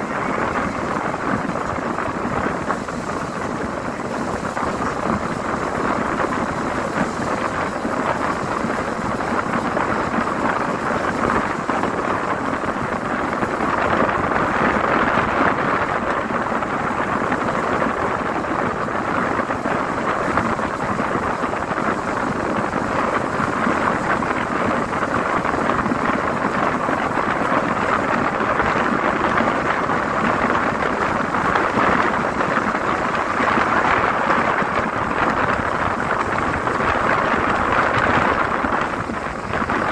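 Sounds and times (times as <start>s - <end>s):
road noise inside vehicle: 0.0s - 39.9s
wind rushing at open window: 0.0s - 39.9s.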